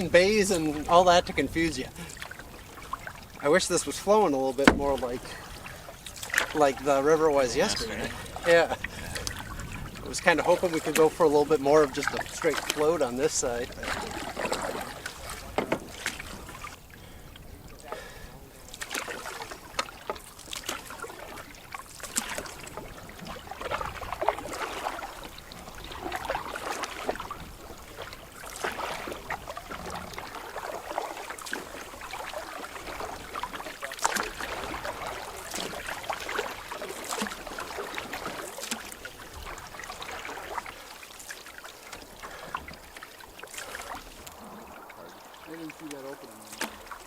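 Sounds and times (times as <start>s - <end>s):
paddle splashing in water: 0.0s - 47.0s
water dripping off paddle: 0.0s - 47.0s.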